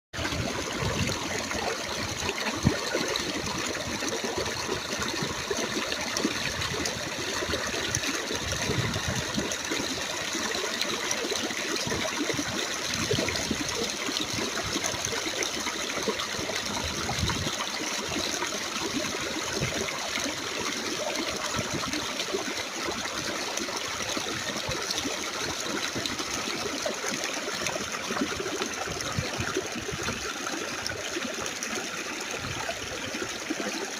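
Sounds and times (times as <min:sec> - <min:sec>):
stream flowing over rocks: 0:00.2 - 0:33.9.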